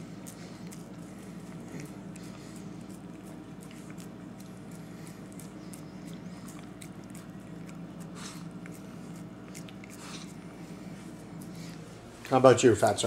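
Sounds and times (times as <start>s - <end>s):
dog licking: 0.0s - 11.9s
steady low hum: 0.0s - 13.0s.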